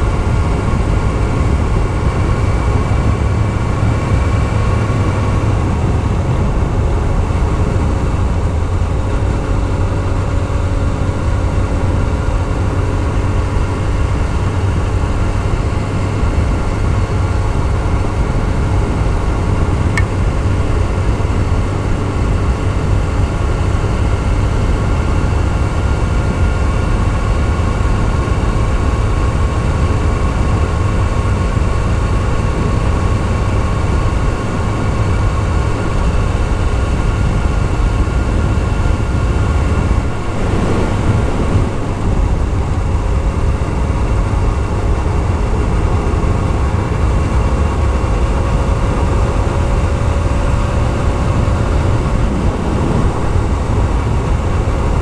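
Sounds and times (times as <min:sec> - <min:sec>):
motorcycle engine cruising: 0:00.0 - 0:55.0
wind rumble on microphone: 0:00.0 - 0:55.0.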